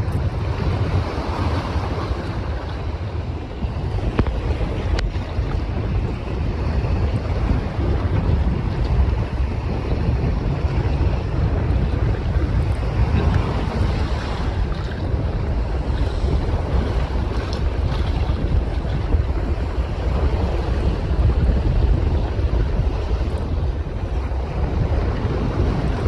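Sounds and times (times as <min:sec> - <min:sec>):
open water washing: 0:00.0 - 0:26.0
wind rumbling on microphone: 0:00.0 - 0:26.0.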